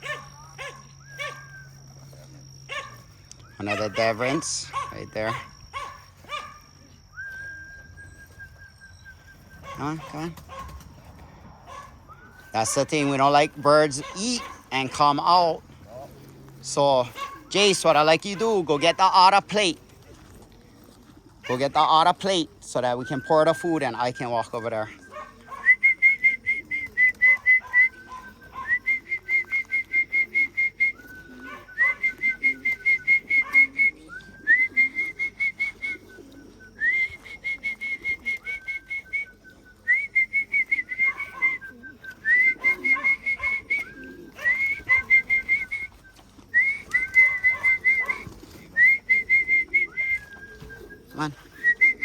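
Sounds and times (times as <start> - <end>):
pigeons cooing: 0.0 - 52.0.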